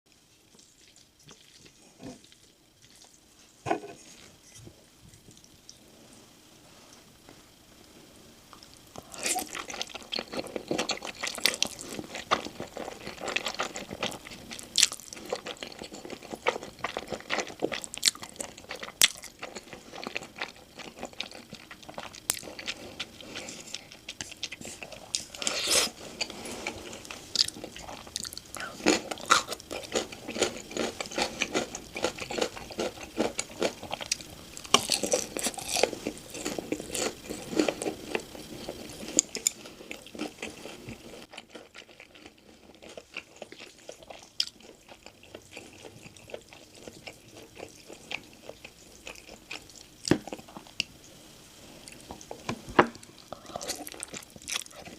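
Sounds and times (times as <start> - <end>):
crunching and chewing: 0.4 - 4.2, 8.5 - 51.0, 51.7 - 54.9.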